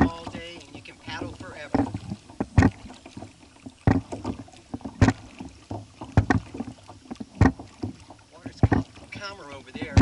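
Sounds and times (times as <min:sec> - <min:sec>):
kayak paddle splashing: 0:00.0 - 0:10.0.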